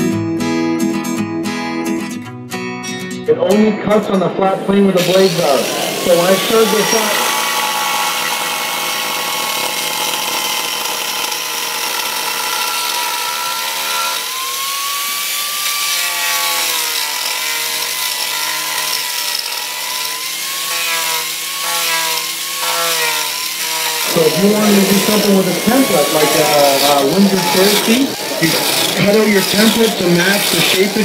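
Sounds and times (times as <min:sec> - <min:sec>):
angle grinder planing wood: 0:03.8 - 0:31.0.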